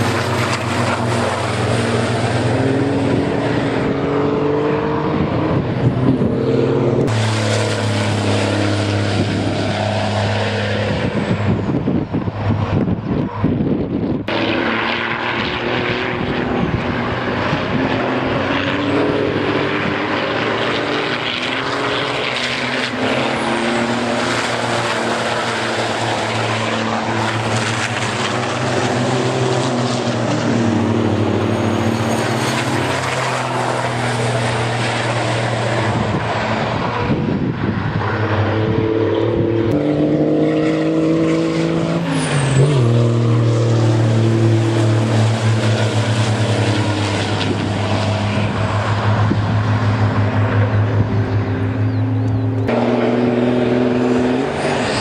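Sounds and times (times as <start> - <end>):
racing truck engines: 0.0 - 55.0.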